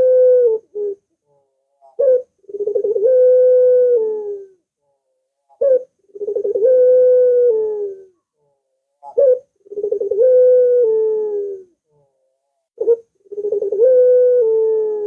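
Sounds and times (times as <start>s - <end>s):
dove cooing: 0.0s - 8.2s, 9.0s - 12.1s, 12.8s - 15.0s.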